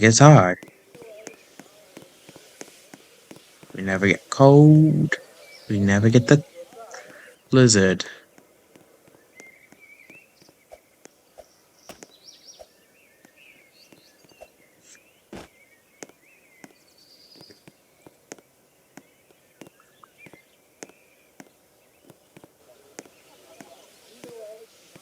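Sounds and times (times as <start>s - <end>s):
faint footsteps: 0.0s - 25.0s
light hiss: 0.0s - 25.0s.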